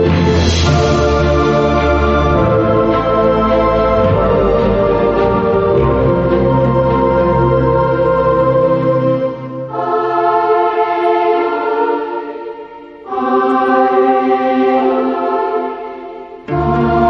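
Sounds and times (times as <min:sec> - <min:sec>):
choir-like sustained chords: 0:00.0 - 0:17.0.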